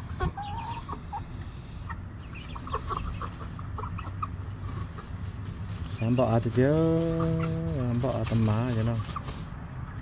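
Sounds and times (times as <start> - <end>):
young chickens clucking and peeping: 0.0 - 10.0.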